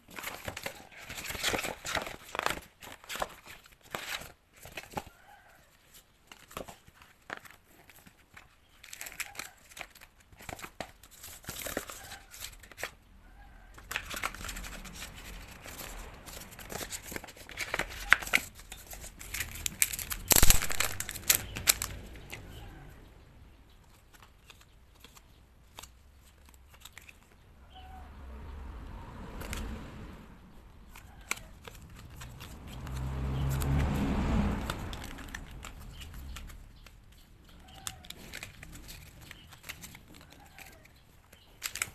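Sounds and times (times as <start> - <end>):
plastic packaging crinkling and tearing: 0.0 - 5.2, 6.2 - 27.4, 30.7 - 41.9.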